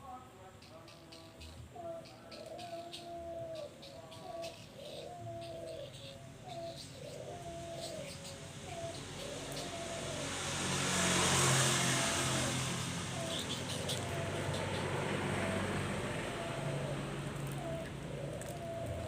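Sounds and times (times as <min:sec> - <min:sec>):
motor vehicle passing: 0:00.6 - 0:19.0
bird cooing: 0:00.8 - 0:10.3, 0:13.1 - 0:19.0.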